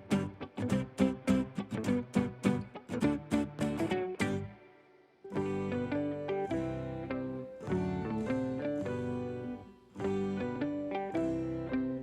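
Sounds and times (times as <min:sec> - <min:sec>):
plucked melody music: 0:00.0 - 0:12.0.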